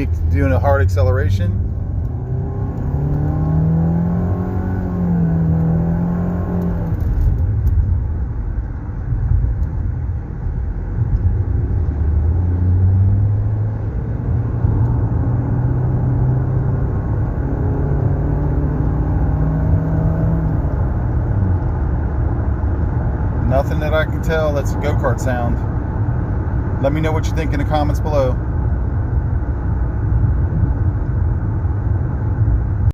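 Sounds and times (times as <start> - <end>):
car engine accelerating: 0.0 - 32.9
road rumble: 0.0 - 32.9.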